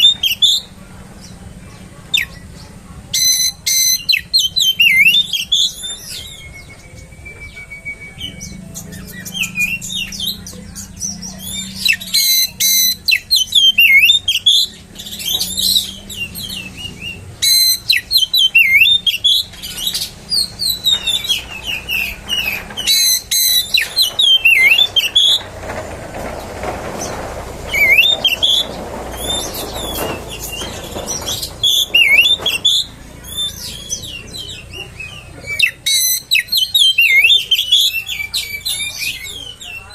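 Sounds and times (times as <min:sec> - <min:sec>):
bird singing whistles and trills: 0:00.0 - 0:01.4, 0:02.1 - 0:25.5, 0:27.0 - 0:39.9.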